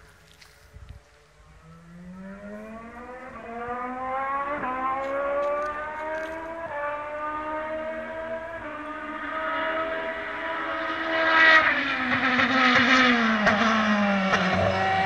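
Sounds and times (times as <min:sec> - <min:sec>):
race car engine accelerating: 0:01.4 - 0:15.0.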